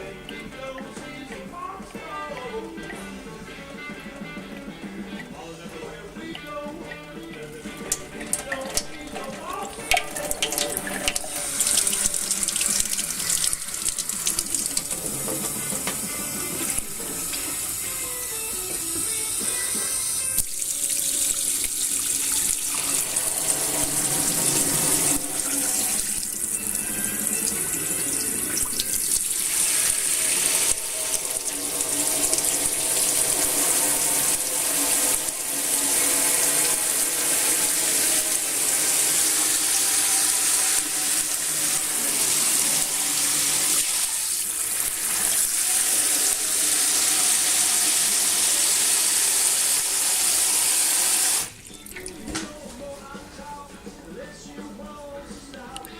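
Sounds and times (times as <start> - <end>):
running water splashing: 0.0 - 52.5.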